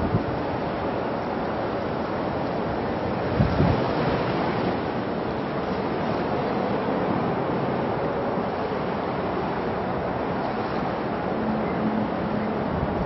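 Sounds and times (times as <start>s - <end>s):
wind buffeting microphone: 0.0s - 11.4s, 12.1s - 13.0s
rushing water: 0.0s - 13.0s
rushing wind: 0.0s - 13.0s.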